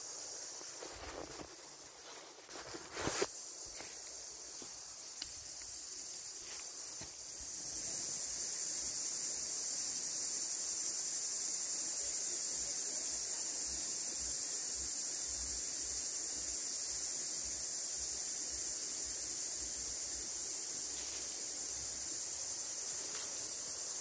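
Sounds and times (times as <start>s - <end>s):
shrill insect chorus: 0.0s - 24.0s.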